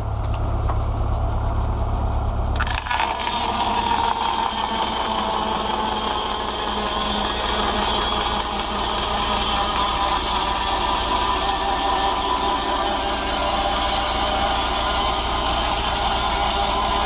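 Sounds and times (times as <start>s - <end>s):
circular saw blade whine: 0.0s - 17.0s
tractor engine running: 0.0s - 17.0s.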